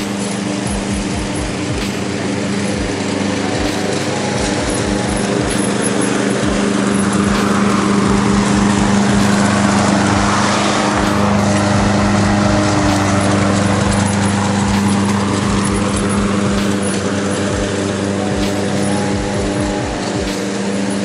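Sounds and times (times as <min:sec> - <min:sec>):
grass cutting hiss: 0:00.0 - 0:21.0
lawn mower running: 0:00.0 - 0:21.0.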